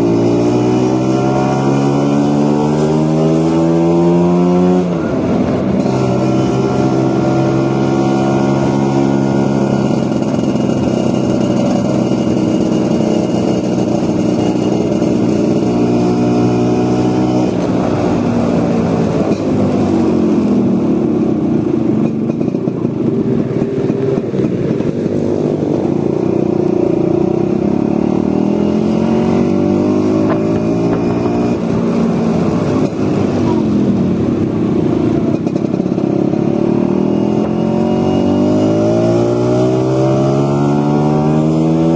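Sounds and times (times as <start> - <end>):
scooter engine revving: 0.0 - 41.9.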